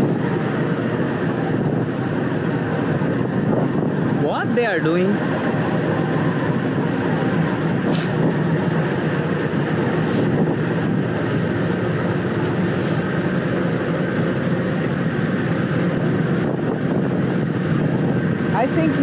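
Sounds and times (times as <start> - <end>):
locomotive diesel engine running: 0.0 - 19.0.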